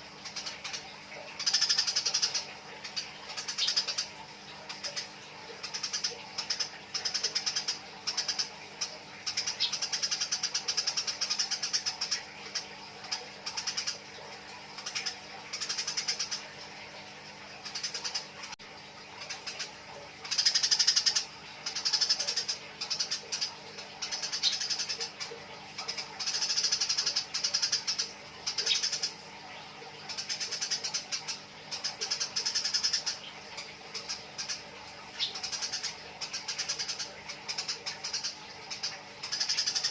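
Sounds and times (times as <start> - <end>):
sparrows chirping harshly: 0.0 - 16.9, 17.5 - 18.6, 19.2 - 39.9.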